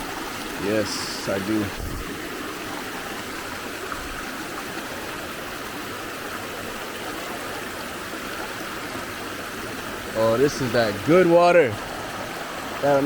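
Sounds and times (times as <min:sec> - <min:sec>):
river water flowing over stones: 0:00.0 - 0:13.0.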